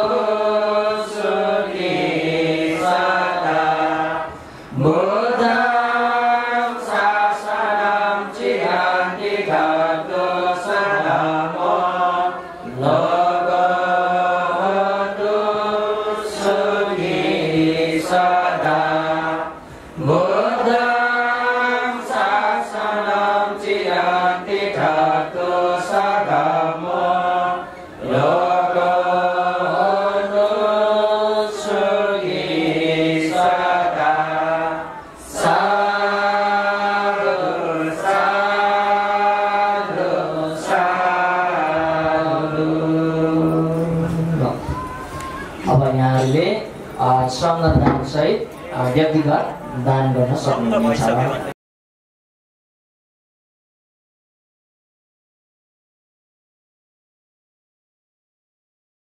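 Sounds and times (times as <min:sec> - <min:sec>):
sung chant: 0:00.0 - 0:48.8.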